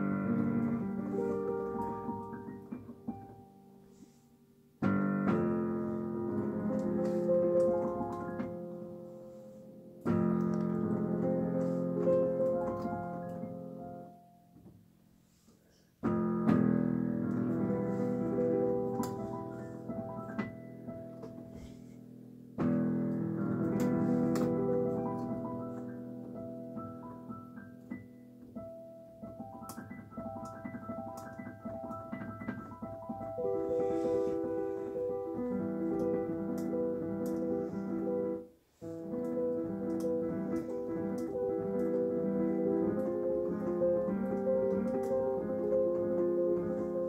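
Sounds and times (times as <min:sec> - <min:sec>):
digital piano chords and notes: 0:00.0 - 0:15.0, 0:15.9 - 0:47.0.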